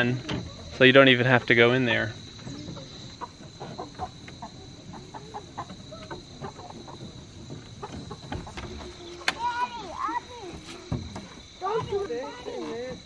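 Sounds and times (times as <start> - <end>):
hens clucking softly: 0.0 - 13.0.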